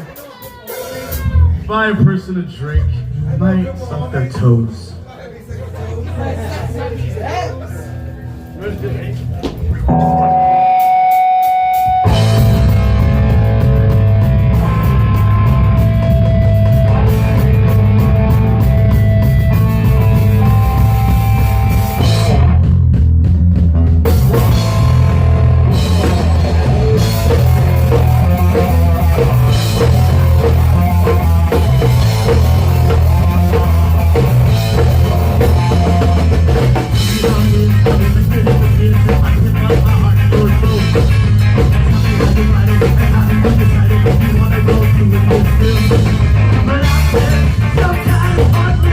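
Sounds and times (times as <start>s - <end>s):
rock band playing: 0.0s - 5.0s, 6.2s - 48.9s.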